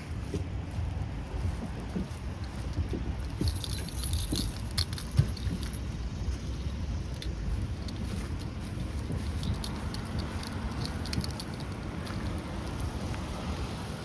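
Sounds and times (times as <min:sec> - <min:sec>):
steady low rumble: 0:00.0 - 0:14.0
light jingling and clicking: 0:00.2 - 0:13.5.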